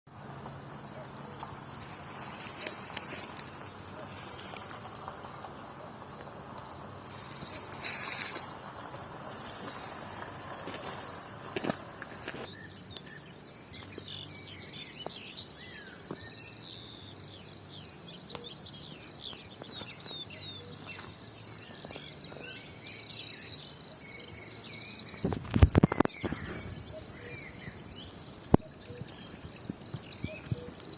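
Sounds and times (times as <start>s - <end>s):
crickets trilling: 0.1s - 30.9s.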